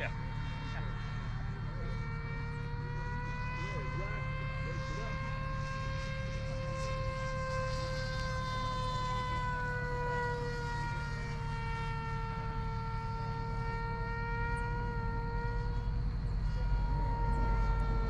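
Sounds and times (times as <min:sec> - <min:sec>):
model airplane motor drone: 0:00.0 - 0:18.0.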